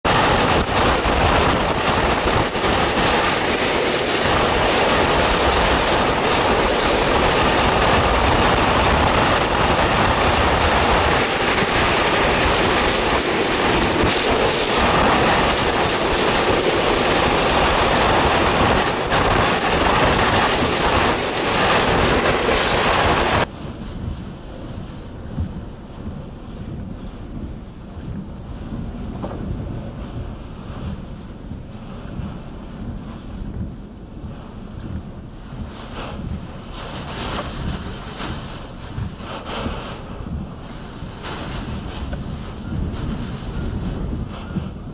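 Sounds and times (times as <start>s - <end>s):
driving rain: 0.0s - 44.9s
wind howling: 0.0s - 44.9s.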